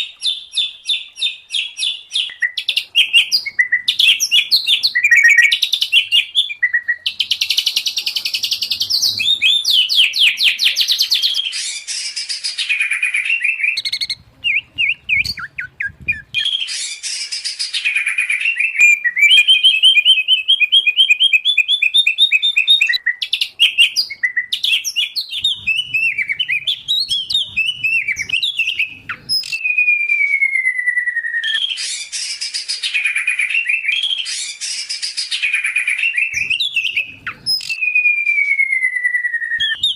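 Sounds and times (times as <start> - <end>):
songbirds singing trills and whistles: 0.0 - 39.9.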